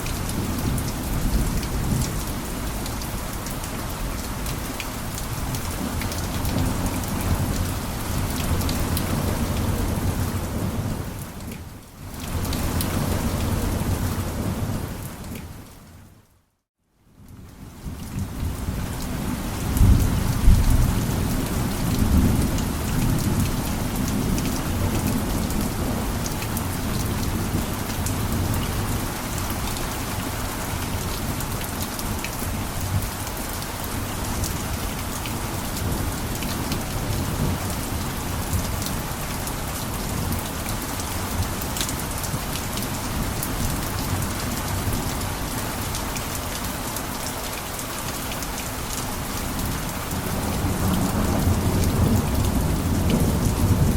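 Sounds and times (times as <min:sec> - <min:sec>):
heavy rain on a roof: 0:00.0 - 0:53.9.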